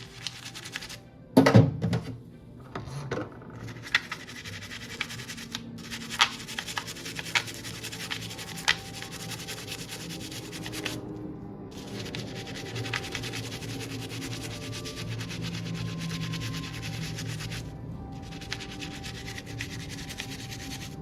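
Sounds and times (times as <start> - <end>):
rubbing and scratching: 0.0 - 1.0, 3.4 - 11.1, 11.7 - 21.0.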